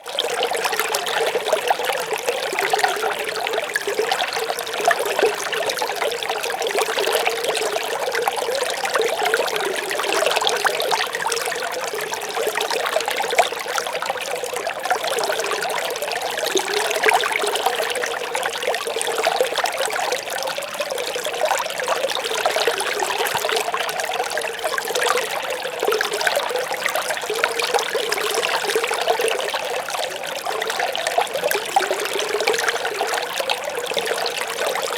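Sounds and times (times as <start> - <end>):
small stream babbling: 0.0 - 34.9.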